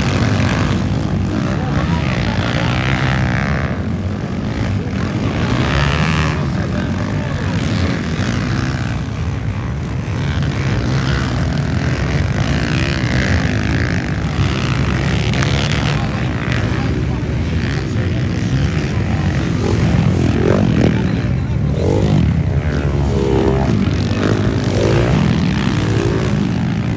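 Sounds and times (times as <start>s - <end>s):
dirt bike engines revving: 0.0s - 26.9s.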